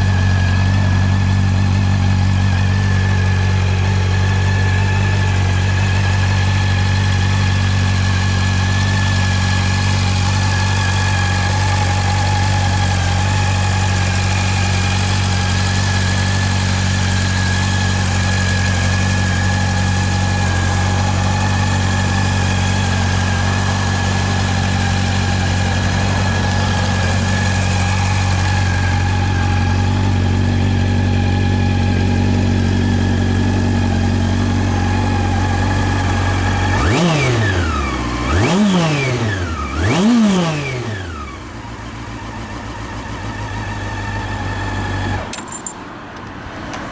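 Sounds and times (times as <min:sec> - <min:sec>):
motorcycle engine idling: 0:00.0 - 0:46.4.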